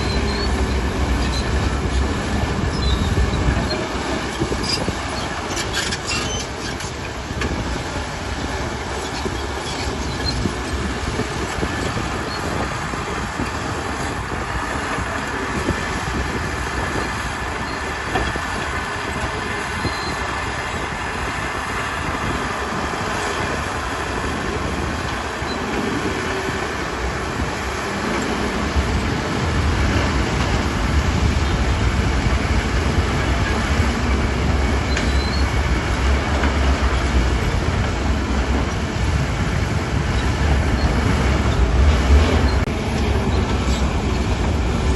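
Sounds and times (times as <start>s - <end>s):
deep engine rumble: 0.0s - 44.9s.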